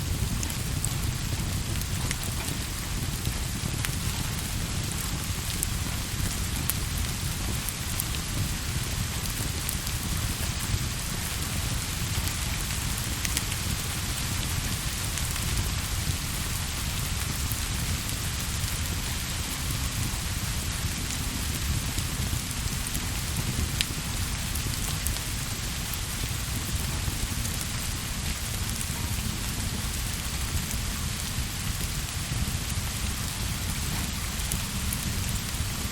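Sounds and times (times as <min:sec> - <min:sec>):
steady rain: 0:00.0 - 0:35.9.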